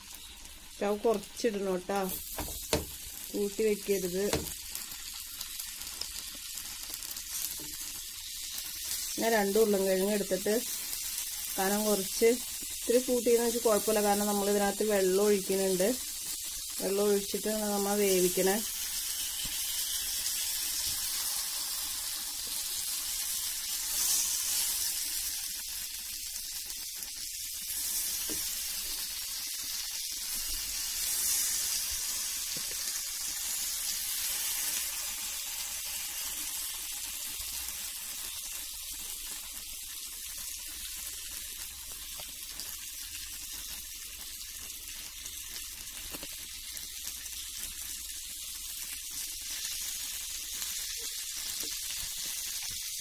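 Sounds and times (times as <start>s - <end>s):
butter sizzling in a pan: 0.0s - 53.0s.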